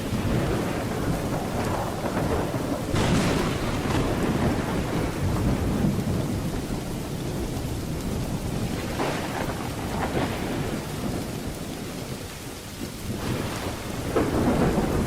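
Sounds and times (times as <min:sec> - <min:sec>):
heavy rain: 0:00.0 - 0:15.0
low rolling thunder: 0:00.0 - 0:15.0.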